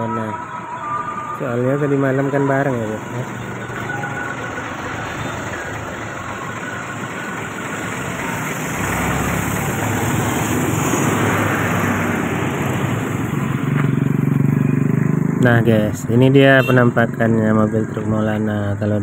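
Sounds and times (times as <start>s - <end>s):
road noise: 0.0s - 19.0s
vehicle engine running: 1.0s - 19.0s.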